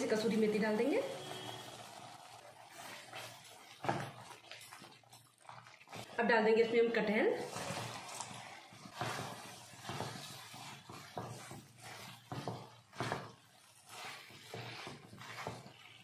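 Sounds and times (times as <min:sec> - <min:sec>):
spatula scraping metal pan: 0:00.0 - 0:04.3, 0:05.8 - 0:16.0.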